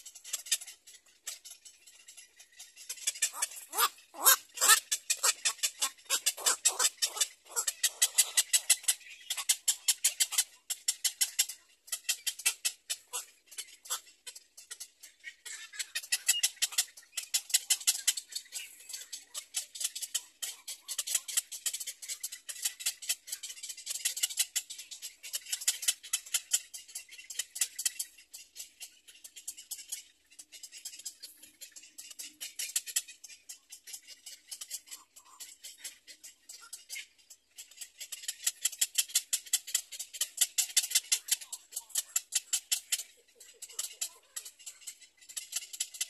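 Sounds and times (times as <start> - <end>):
birds clicking chatter: 0.0 - 46.0.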